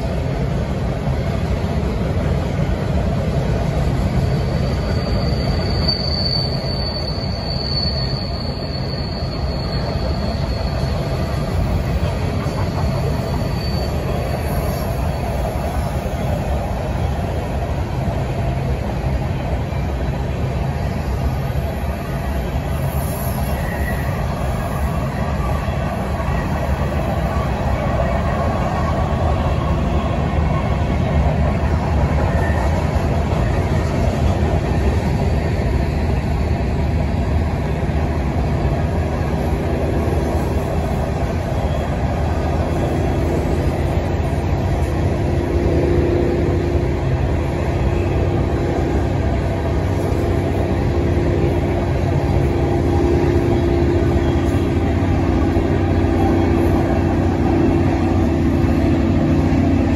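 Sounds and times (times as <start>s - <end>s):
diesel engine drone: 0.0s - 59.9s
rail cars rumbling: 0.0s - 59.9s.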